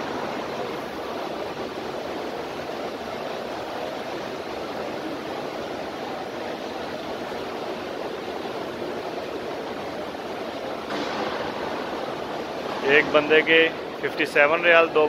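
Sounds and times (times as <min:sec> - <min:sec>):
rushing background noise of a hall: 0:00.0 - 0:15.0.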